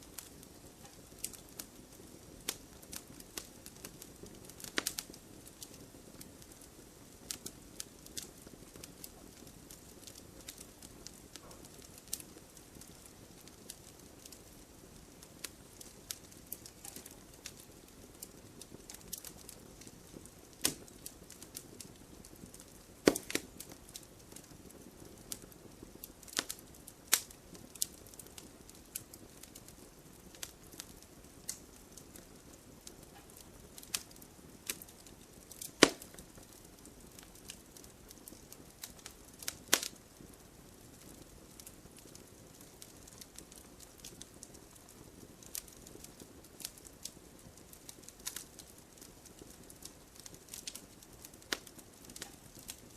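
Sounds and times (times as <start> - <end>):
firewood crackling and hissing: 0.0 - 52.9
sharp pops of fire: 0.0 - 52.9.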